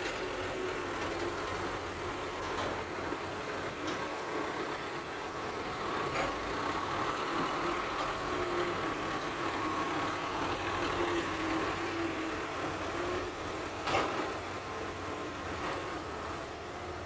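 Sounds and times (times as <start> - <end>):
diesel engine of heavy machinery: 0.0 - 17.0.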